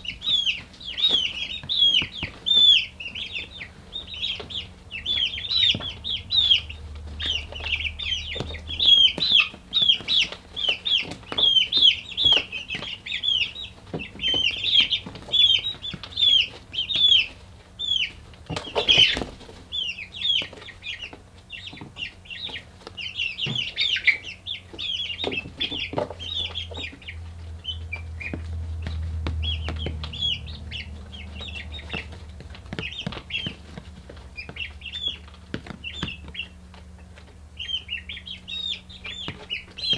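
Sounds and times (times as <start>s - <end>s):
chicks peeping: 0.0s - 39.9s
low steady hum: 0.0s - 39.9s.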